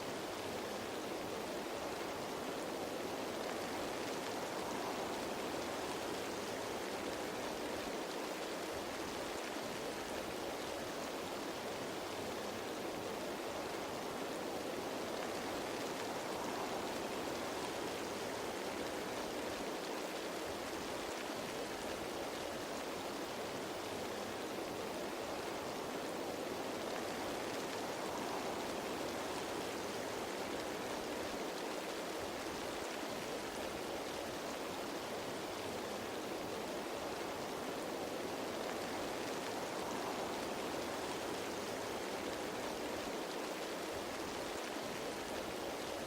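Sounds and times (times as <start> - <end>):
rain falling on leaves: 0.0 - 46.0.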